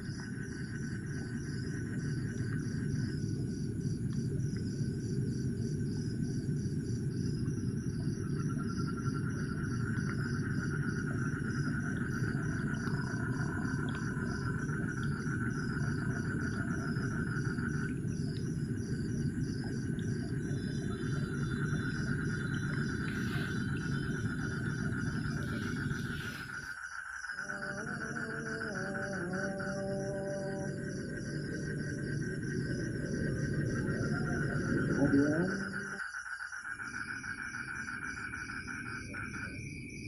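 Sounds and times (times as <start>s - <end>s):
low rumbling noise: 0.0s - 26.7s, 27.4s - 35.9s
crickets chirping: 0.0s - 40.0s
insect high trill: 0.0s - 40.0s.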